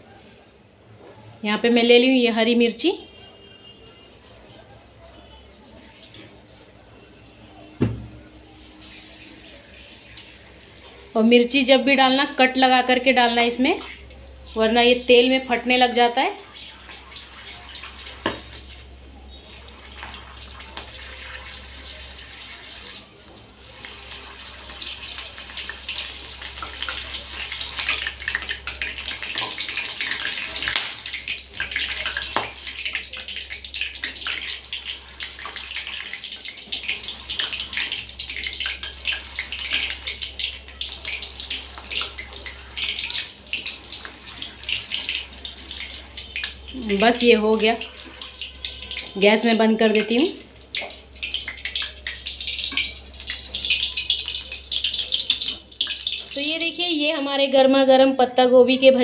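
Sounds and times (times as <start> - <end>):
chillies sizzling in hot oil: 8.4 - 57.6.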